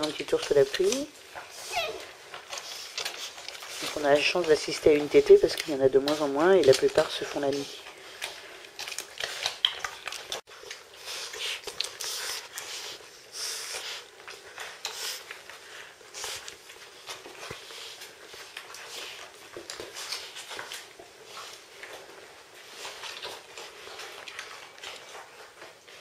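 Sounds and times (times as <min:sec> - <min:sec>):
puppies suckling: 0:00.0 - 0:26.0.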